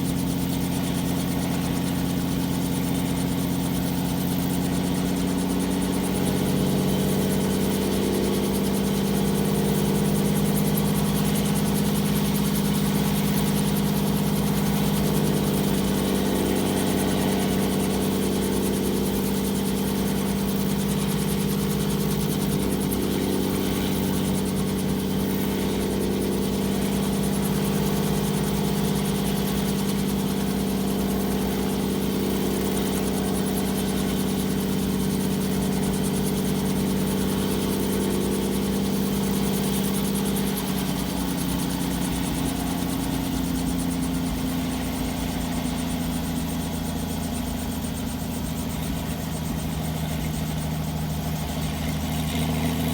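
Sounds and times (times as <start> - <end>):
helicopter droning: 0.0 - 52.9.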